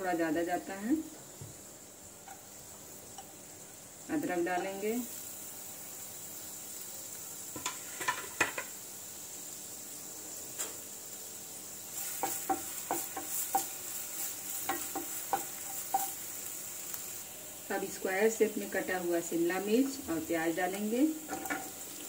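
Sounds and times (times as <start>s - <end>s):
garlic sizzling in oil: 0.0s - 22.0s.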